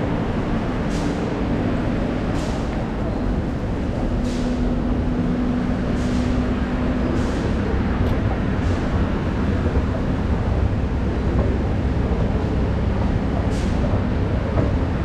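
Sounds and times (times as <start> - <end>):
escalator machinery rumble: 0.0 - 15.0.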